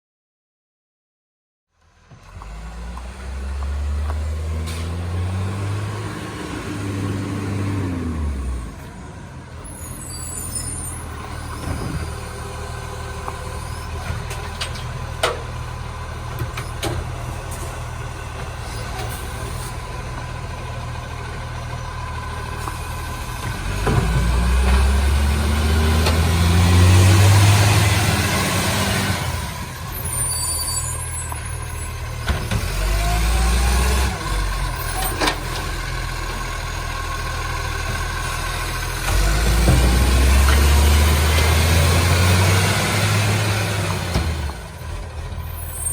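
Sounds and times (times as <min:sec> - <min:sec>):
garbage truck diesel engine revving: 0:02.2 - 0:45.9.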